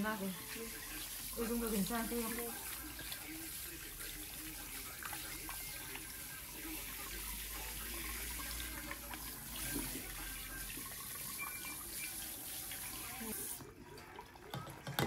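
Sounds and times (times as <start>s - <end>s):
water spraying and splashing: 0.0s - 13.7s.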